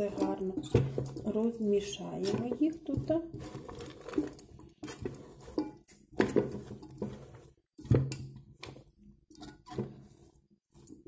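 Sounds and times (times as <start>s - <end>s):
spatula scraping cooking bowl: 0.0s - 11.0s.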